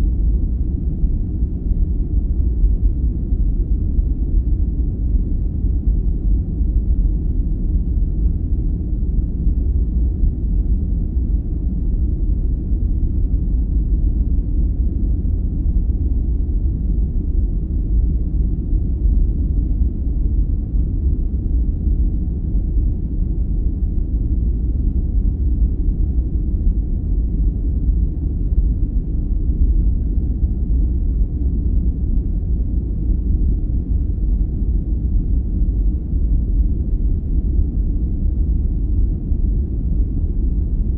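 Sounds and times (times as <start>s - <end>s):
deep low rumble noise: 0.0s - 40.9s.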